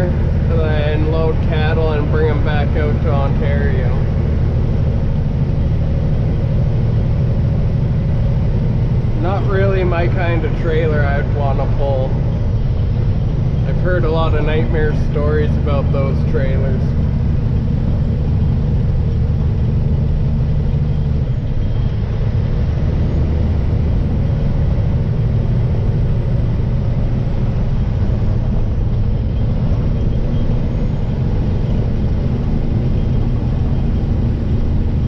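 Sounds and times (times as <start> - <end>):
road noise: 0.0 - 35.0
truck diesel engine running: 0.0 - 35.0.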